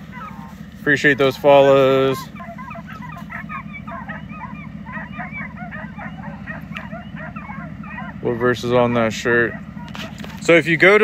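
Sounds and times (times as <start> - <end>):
hounds baying: 0.0 - 11.0
low steady hum: 0.0 - 11.0.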